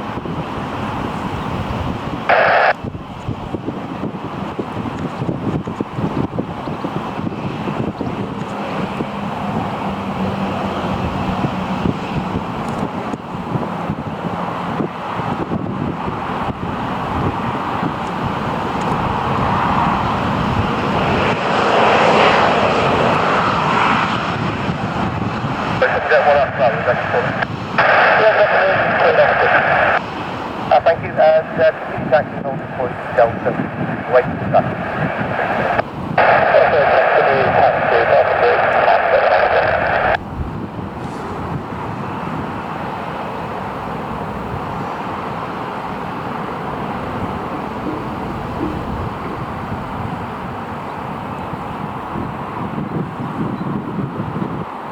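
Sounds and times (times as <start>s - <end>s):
airliner engines roaring: 0.0s - 54.9s.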